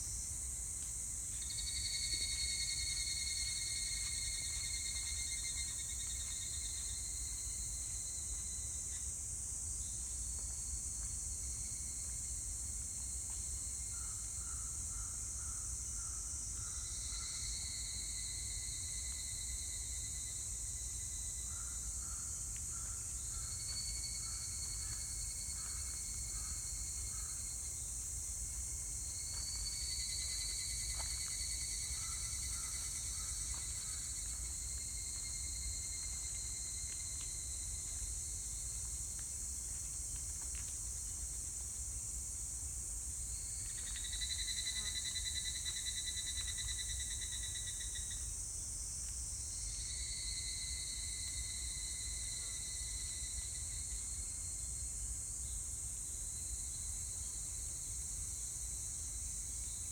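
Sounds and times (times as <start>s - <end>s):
cicadas pulsing trill: 0.0s - 10.0s, 11.4s - 59.9s
steady high-pitched hiss: 0.0s - 59.9s.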